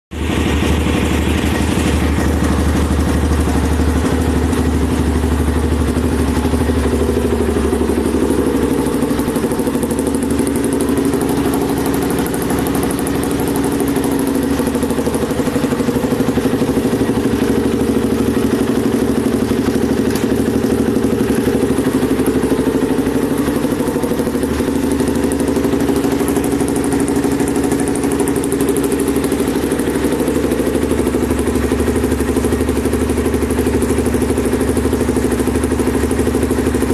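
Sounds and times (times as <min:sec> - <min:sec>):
atv engine idling: 0:00.1 - 0:36.9.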